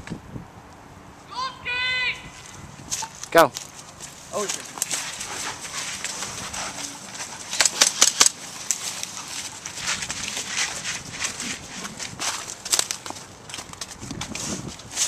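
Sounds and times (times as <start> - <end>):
running footsteps crunching: 2.3 - 15.0.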